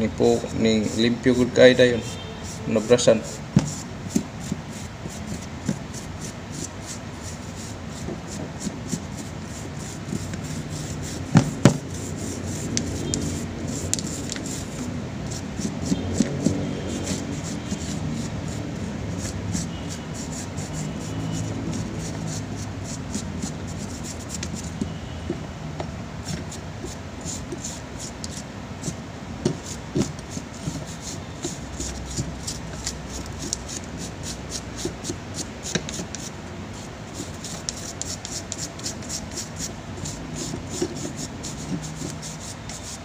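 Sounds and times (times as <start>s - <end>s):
stiff brush scrubbing: 0.1s - 24.8s, 26.2s - 43.0s.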